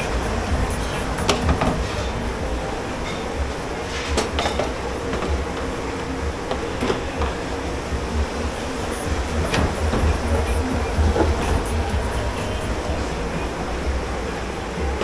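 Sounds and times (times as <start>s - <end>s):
dishes and cutlery clinking: 0.0s - 13.2s
kitchen machinery rumble and hum: 0.0s - 15.0s.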